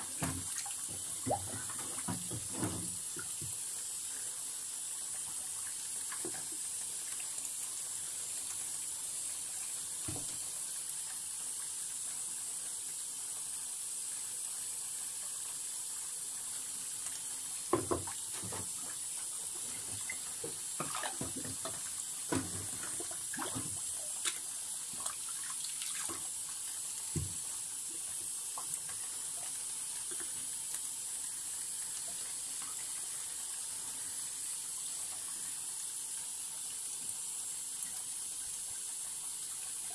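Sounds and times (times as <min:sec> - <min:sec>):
tap water running into sink: 0:00.0 - 0:12.3, 0:15.5 - 0:39.9.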